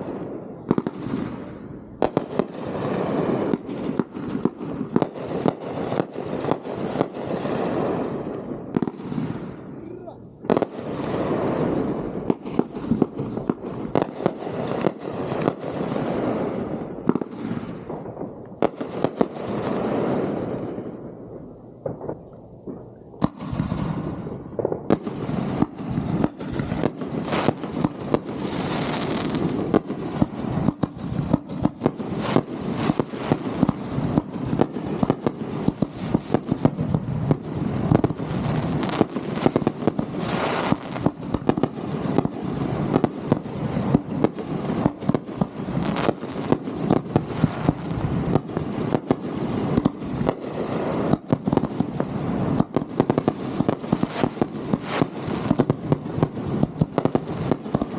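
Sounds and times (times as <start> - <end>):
fireworks sharp reports: 0.0 - 21.1, 21.8 - 57.9
fireworks crackling: 0.0 - 57.9.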